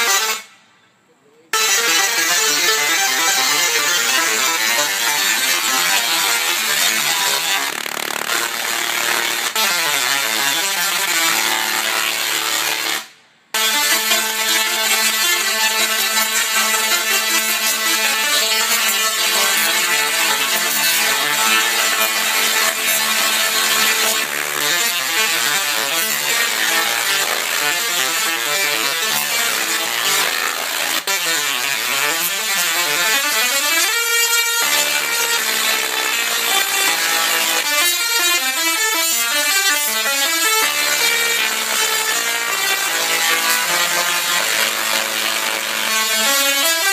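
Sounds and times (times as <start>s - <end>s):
tesla coil buzzing tune: 0.0s - 0.6s, 1.5s - 46.9s.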